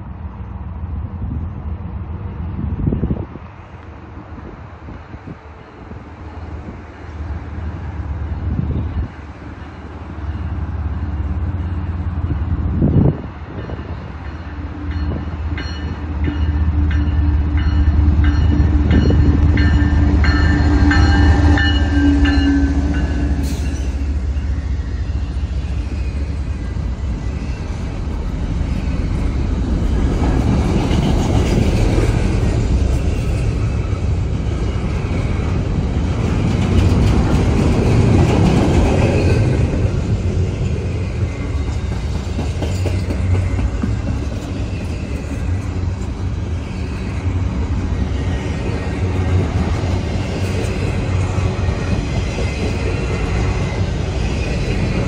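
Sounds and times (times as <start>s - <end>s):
diesel locomotive engine droning: 0.0s - 55.0s
train wheels rumbling on rail: 0.0s - 55.0s.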